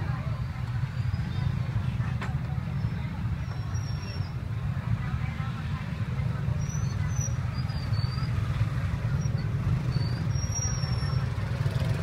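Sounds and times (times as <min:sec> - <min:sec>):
low rumble of street market: 0:00.0 - 0:12.0.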